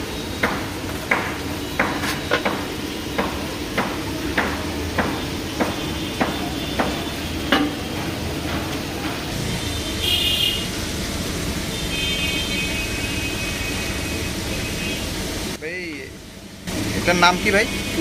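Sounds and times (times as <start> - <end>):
oil sizzling while deep-frying: 0.0 - 18.0.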